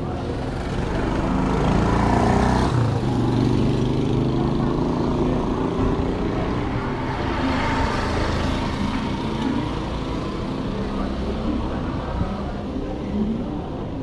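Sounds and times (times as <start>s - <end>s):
vehicle engines running: 0.0s - 14.0s.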